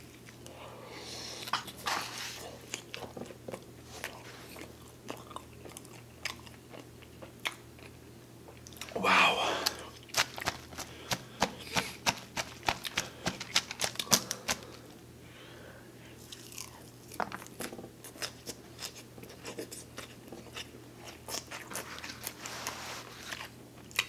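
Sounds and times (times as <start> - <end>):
crunching and chewing lettuce: 0.0 - 9.0, 9.6 - 15.0, 16.2 - 24.0.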